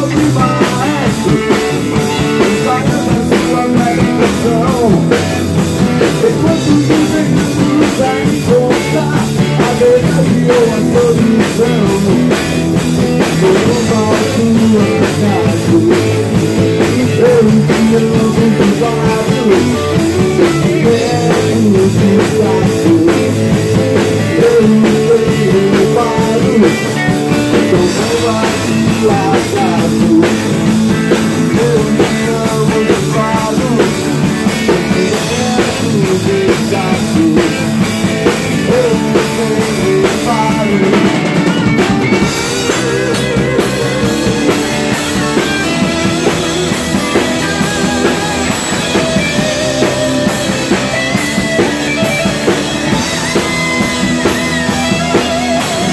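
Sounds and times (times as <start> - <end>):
drum kit: 0.0 - 55.9
electric guitar lead with bent notes: 0.0 - 55.9
strummed acoustic-electric guitar: 0.0 - 55.9.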